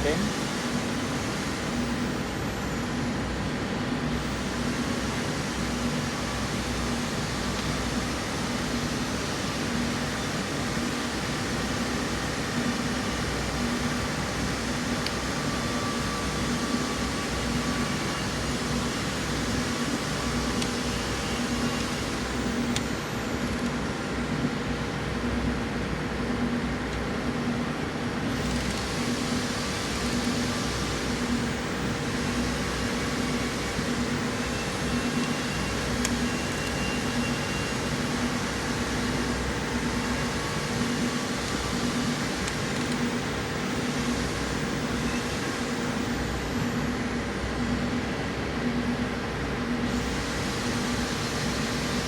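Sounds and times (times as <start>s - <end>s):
mechanical hum: 0.0s - 52.0s.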